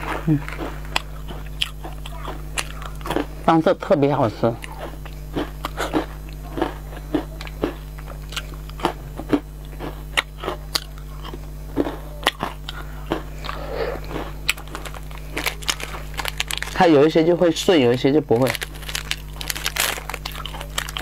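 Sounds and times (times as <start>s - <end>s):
biscuits crunching: 0.0s - 21.0s.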